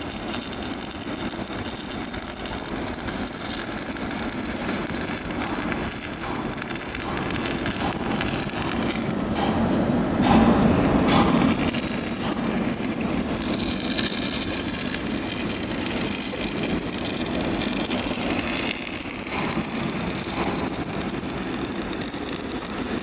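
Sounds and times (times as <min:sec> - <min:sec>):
welding arc crackling: 0:00.0 - 0:09.4, 0:10.6 - 0:23.0.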